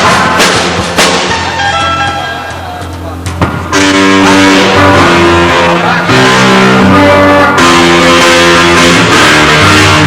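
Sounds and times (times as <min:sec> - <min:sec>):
band playing: 0:00.0 - 0:10.0
electric guitar strummed chords: 0:00.0 - 0:10.0.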